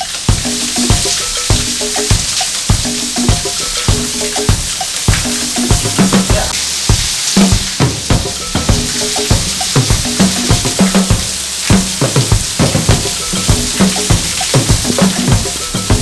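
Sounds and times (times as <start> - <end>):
funky background music: 0.0 - 16.0
waterfall rushing hiss: 0.0 - 16.0.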